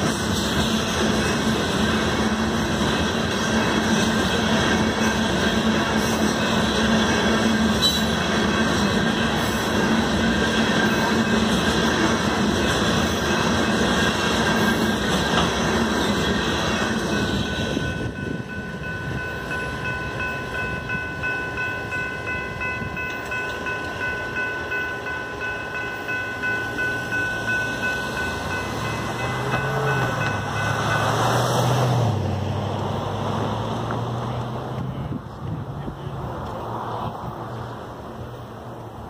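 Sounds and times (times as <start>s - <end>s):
crossing bell ringing: 0.0s - 32.2s
car driving across tracks: 0.0s - 39.0s
freight cars rolling: 0.0s - 39.0s.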